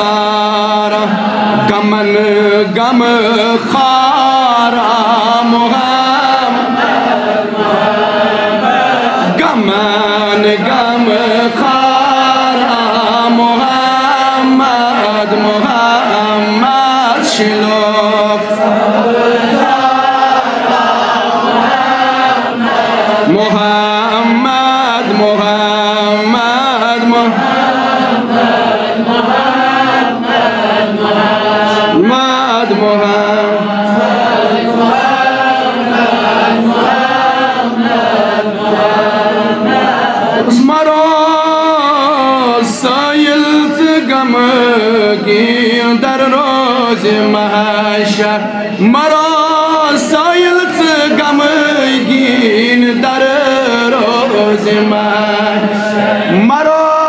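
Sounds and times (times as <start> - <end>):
man singing devotional hymn: 0.0 - 57.0.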